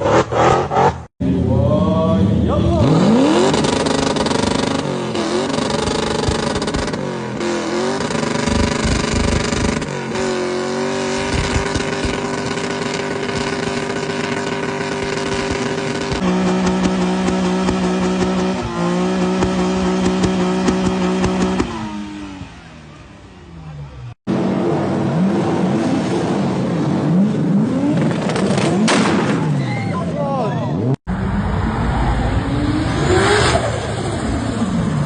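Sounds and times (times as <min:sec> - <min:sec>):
sports car engine revving: 0:00.0 - 0:29.0.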